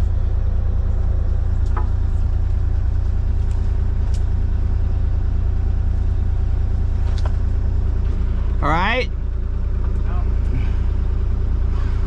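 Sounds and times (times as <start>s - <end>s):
excavator engine droning: 0.0s - 12.0s.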